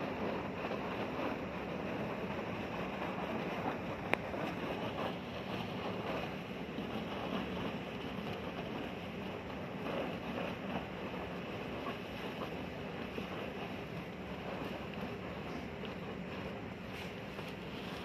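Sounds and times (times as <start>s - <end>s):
ship engine low rumble: 0.0s - 18.0s
wind buffeting microphone: 0.0s - 18.0s.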